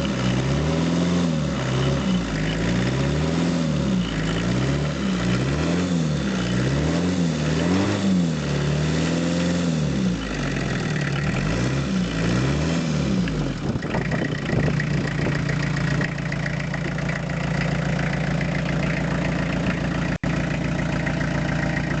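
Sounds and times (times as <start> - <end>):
diesel engine revving and idling: 0.0 - 22.0.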